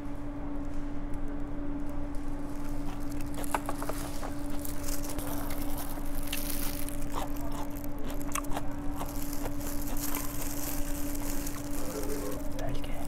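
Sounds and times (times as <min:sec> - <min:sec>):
low electrical hum: 0:00.0 - 0:13.0
biting and chewing food: 0:01.8 - 0:13.0.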